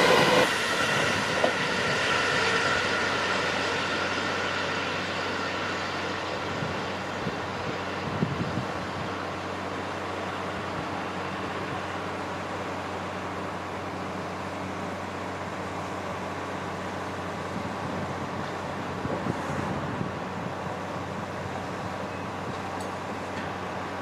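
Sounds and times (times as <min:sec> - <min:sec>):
railway rumble: 0:00.0 - 0:24.0.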